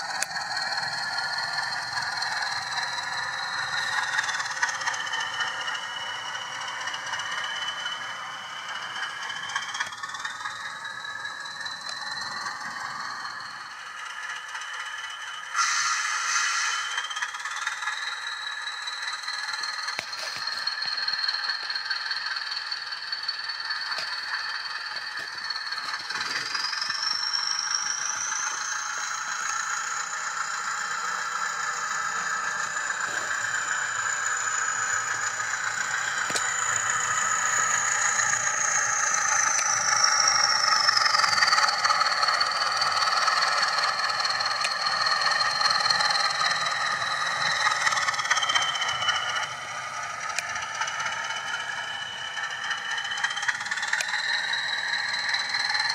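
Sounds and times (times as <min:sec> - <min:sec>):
diesel engine sound from small speaker: 0:00.0 - 0:55.9
high whine: 0:00.0 - 0:55.9
rattle: 0:00.0 - 0:55.9.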